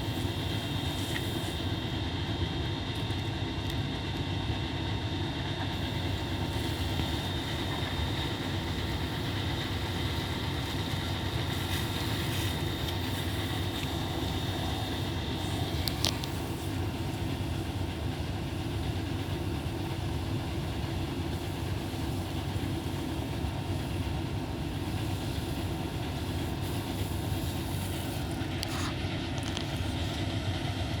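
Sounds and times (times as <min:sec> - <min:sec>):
machine low rumble: 0:00.0 - 0:31.0.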